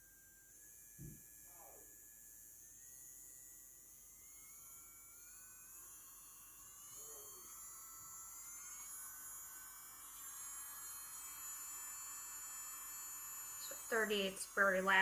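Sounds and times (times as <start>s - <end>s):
electric nail drill whine: 0.0s - 15.0s.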